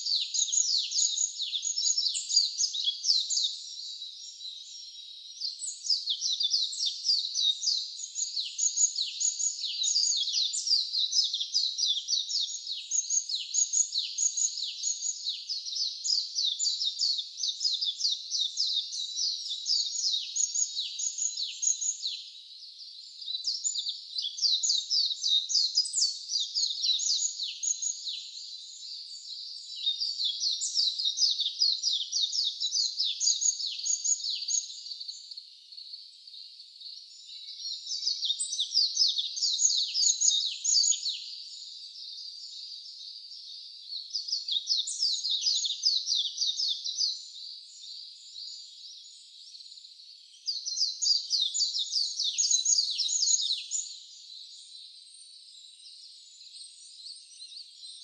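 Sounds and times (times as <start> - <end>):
wild birds chirping: 0.0 - 58.0.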